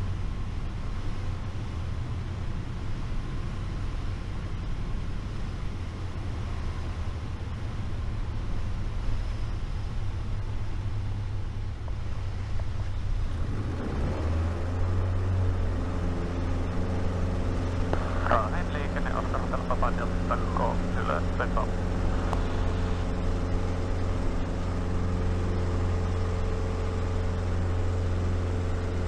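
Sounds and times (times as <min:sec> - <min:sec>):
light aircraft engine droning: 0:00.0 - 0:29.0.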